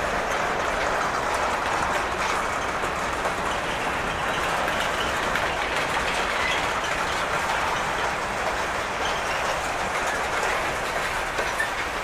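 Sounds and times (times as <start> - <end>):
steel wheels running on rails: 0.0 - 12.0.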